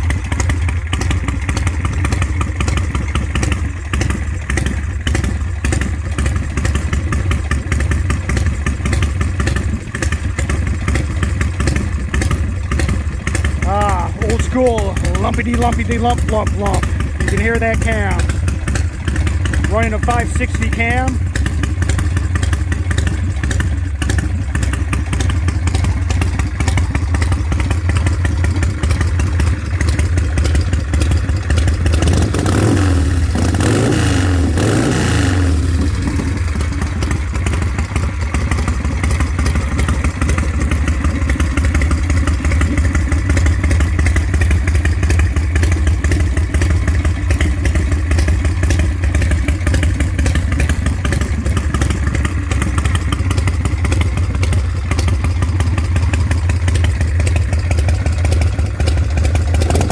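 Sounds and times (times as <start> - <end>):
motorcycle engine idling: 0.0 - 59.9
motorcycle throttle revving: 0.0 - 59.9.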